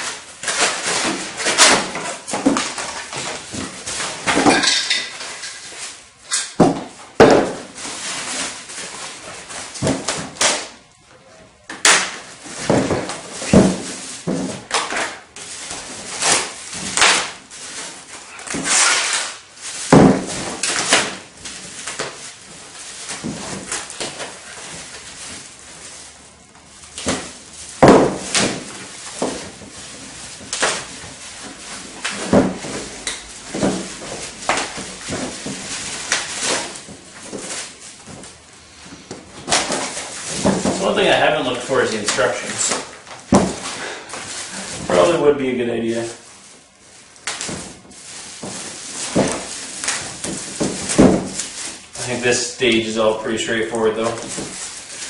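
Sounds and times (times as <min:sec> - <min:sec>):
paper and foam crinkling tearing: 0:00.0 - 0:06.5, 0:11.8 - 0:55.0.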